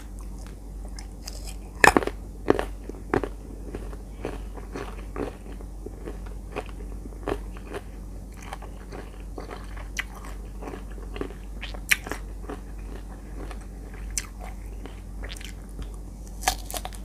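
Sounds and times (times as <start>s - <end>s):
chewing crisp mango: 0.0s - 17.0s.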